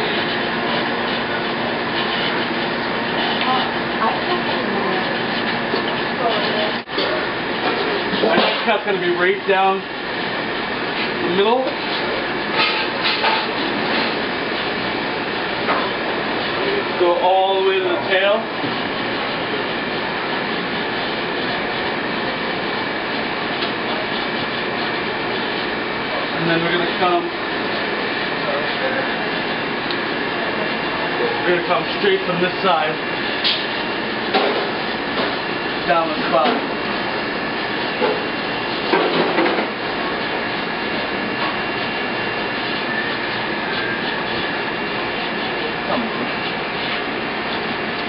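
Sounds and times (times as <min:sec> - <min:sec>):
ventilation air rushing: 0:00.0 - 0:48.0.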